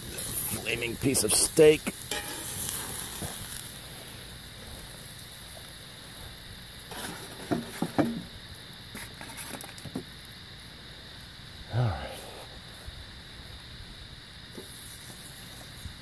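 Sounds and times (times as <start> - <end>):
steak sizzling on a griddle: 0.0 - 11.4, 12.7 - 16.0.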